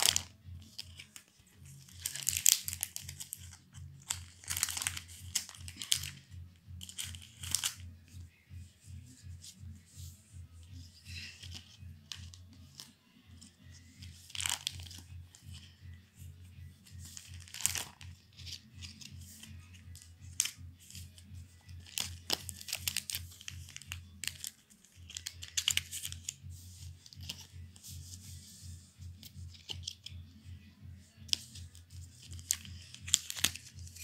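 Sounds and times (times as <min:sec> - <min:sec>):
cards and plastic sleeves rustling: 0:00.0 - 0:30.4, 0:31.0 - 0:34.0.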